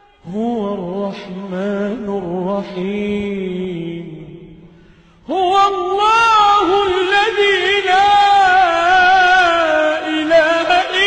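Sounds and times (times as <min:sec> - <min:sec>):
man chanting recitation: 0:00.2 - 0:04.7, 0:05.3 - 0:11.0.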